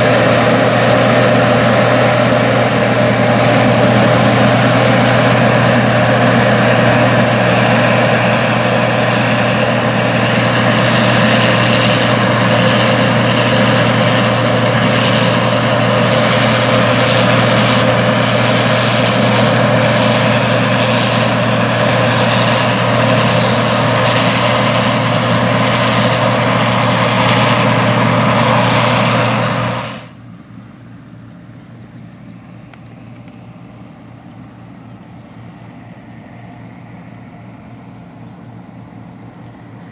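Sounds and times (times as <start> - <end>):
combine harvester diesel drone: 0.0 - 39.9.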